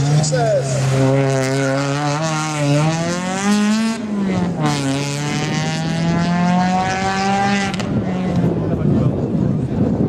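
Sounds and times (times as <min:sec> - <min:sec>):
rally car engine accelerating: 0:00.0 - 0:09.1.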